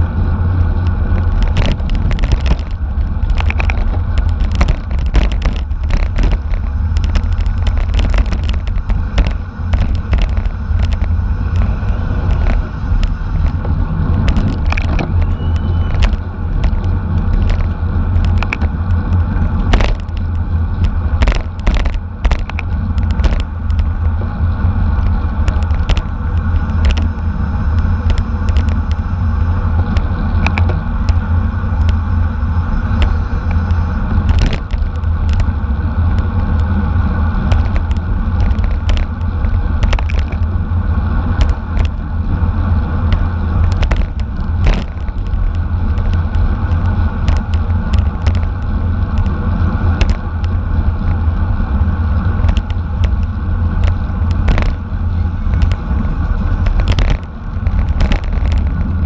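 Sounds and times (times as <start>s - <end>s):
rolling road noise: 0.0s - 59.0s
wind rumble on microphone: 0.0s - 59.0s
sharp clicks and knocks: 0.6s - 24.3s, 24.9s - 29.0s, 29.7s - 32.1s, 32.9s - 36.8s, 37.4s - 40.6s, 41.2s - 42.0s, 43.0s - 51.2s, 52.2s - 54.8s, 55.4s - 59.0s.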